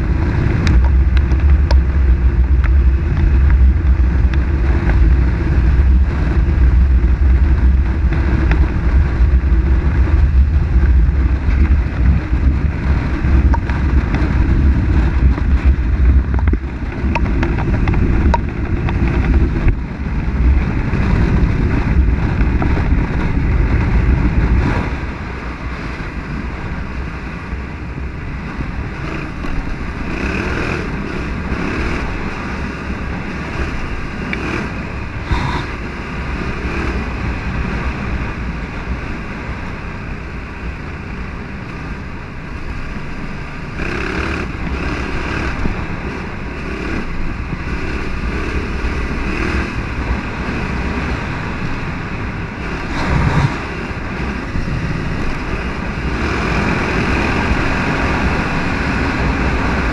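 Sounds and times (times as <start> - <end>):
motorcycle engine running: 0.0 - 59.9
wind rushing past microphone: 0.0 - 59.9.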